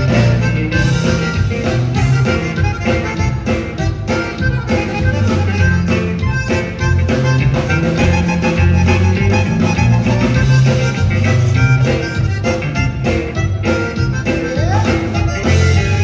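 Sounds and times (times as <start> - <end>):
bass line: 0.0 - 16.0
button accordion melody: 0.0 - 16.0
guitar: 0.0 - 16.0
steady beat: 0.0 - 16.0.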